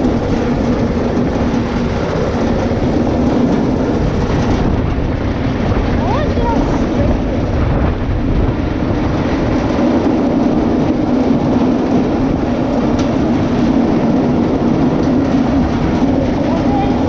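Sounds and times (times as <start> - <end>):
kart engine drone: 0.0 - 17.0.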